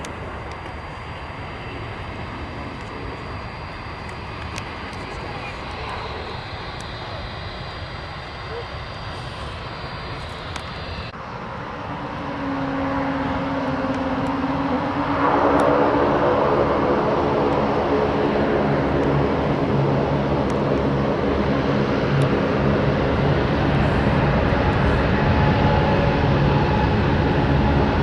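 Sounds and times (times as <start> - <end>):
jet engines spooling up: 0.0 - 28.0
jet runway roll-out: 0.0 - 28.0
jet takeoff roar: 0.0 - 28.0.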